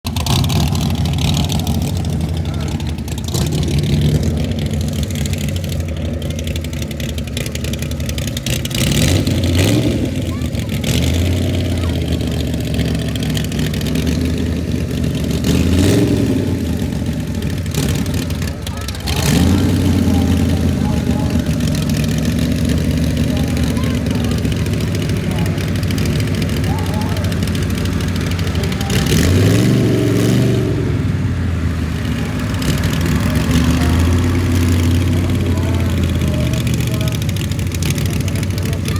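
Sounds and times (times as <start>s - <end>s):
car engine misfiring: 0.0s - 38.9s.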